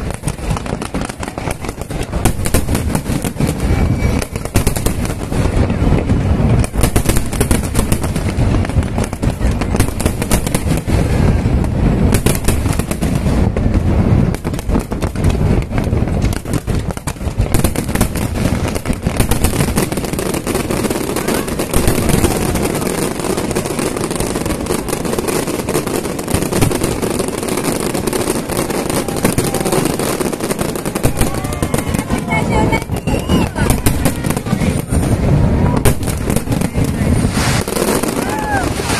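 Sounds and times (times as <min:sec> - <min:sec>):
deep fireworks booms: 0:00.0 - 0:38.9
fireworks bangs and crackling: 0:00.0 - 0:38.9.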